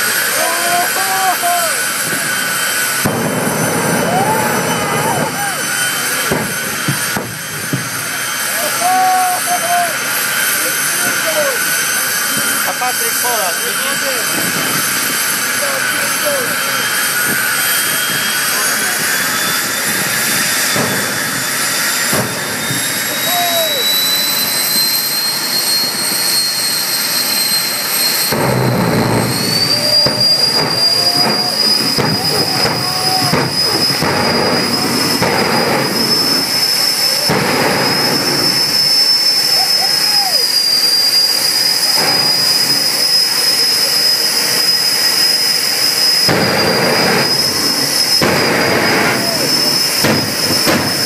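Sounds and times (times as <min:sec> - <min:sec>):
exhaust rush: 0:00.0 - 0:51.0
turbine engine whine: 0:00.0 - 0:51.0.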